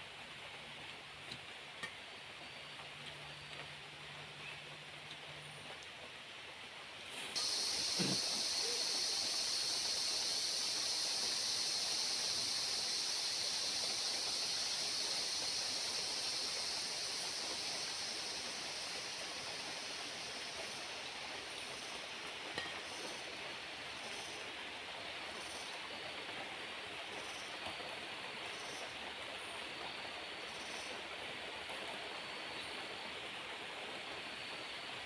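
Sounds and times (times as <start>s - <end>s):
faint forest hiss: 0.0s - 35.0s
cicadas droning: 6.0s - 35.0s.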